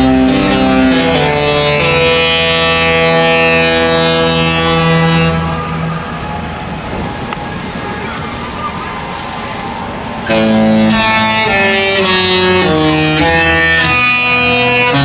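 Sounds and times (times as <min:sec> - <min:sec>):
ship's musical horn: 0:00.0 - 0:15.0.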